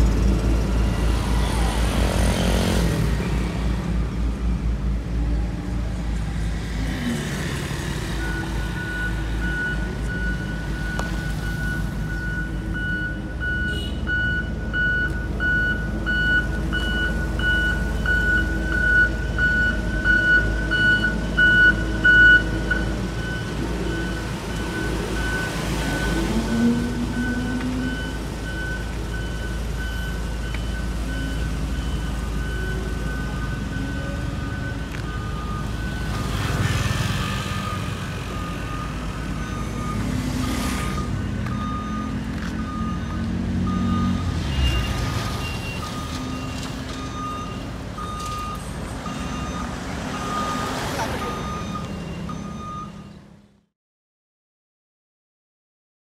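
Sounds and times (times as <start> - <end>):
road rollers rumbling: 0.0 - 53.6
passing vehicles: 0.0 - 53.7
reversing alarm beeping: 7.7 - 53.2.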